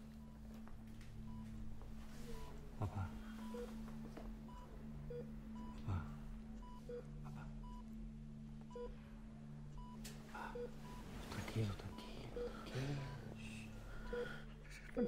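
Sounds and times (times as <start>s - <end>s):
patient monitor beeping: 0.0s - 14.6s
steady low hum: 0.0s - 15.0s.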